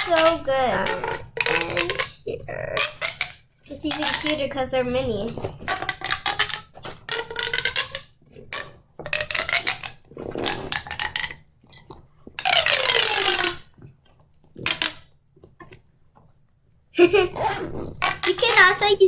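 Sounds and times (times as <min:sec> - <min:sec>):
plastic pop tubes popping: 0:00.0 - 0:16.3, 0:16.9 - 0:19.0.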